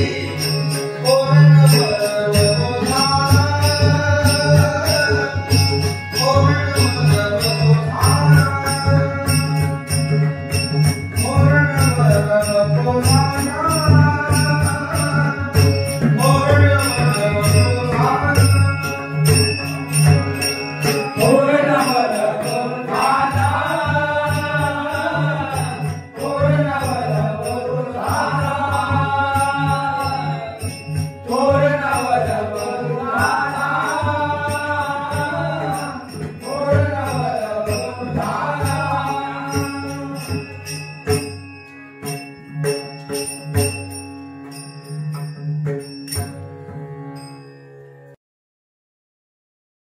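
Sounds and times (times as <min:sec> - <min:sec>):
man singing devotional song: 0:00.0 - 0:43.2
hand cymbals clinking: 0:00.0 - 0:46.4.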